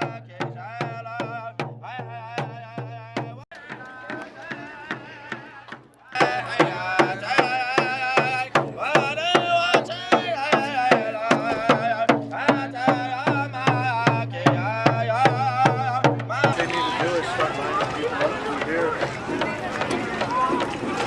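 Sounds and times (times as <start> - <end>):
steady drumbeat: 0.0 - 21.0.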